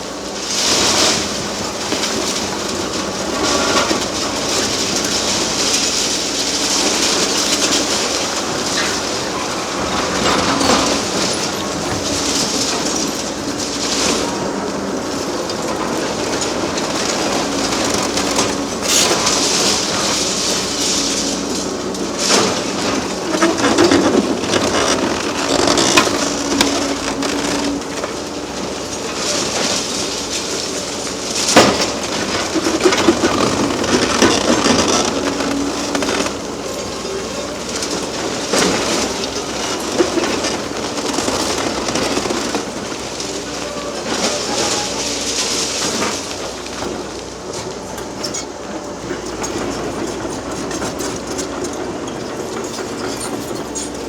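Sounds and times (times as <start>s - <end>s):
excavator engine and hydraulics: 0.0s - 54.0s
concrete rubble rattling: 0.7s - 54.0s.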